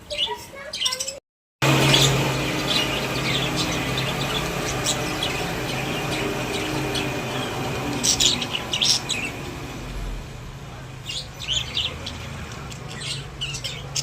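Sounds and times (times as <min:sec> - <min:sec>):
budgerigars chirping: 0:00.1 - 0:09.9, 0:11.0 - 0:14.0
steady low hum: 0:01.6 - 0:14.0.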